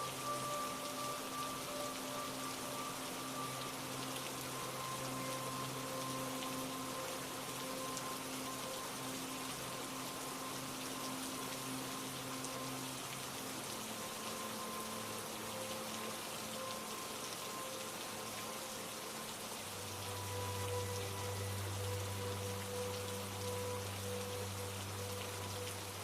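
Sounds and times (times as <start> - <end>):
soft low musical tones: 0.0 - 26.0
steady rain falling: 0.0 - 26.0.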